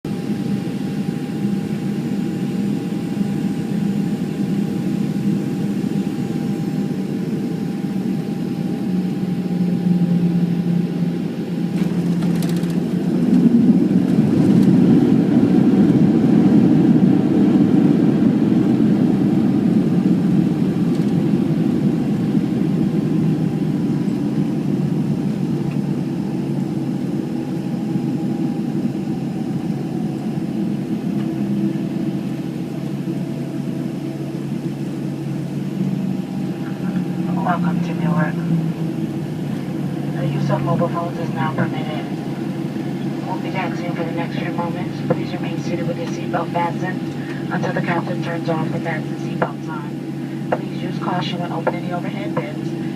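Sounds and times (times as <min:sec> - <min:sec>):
jet engine and airflow noise: 0:00.1 - 0:52.9.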